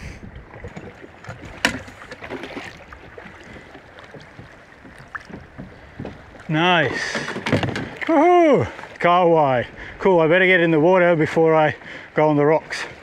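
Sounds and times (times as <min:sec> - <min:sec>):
water lapping against boat: 0:00.0 - 0:13.0.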